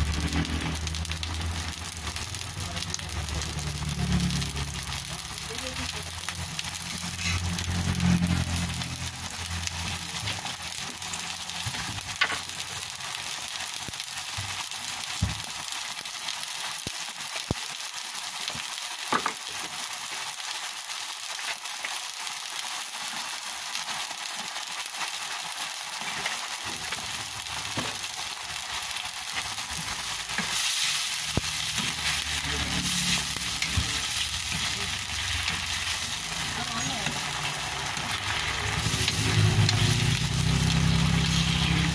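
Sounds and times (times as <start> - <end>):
food sizzling in hot oil: 0.0 - 41.9.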